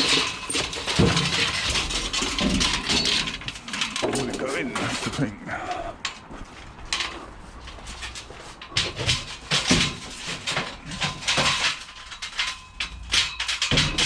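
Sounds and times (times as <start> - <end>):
scrap metal clattering and scraping: 0.0 - 5.4, 6.0 - 14.0.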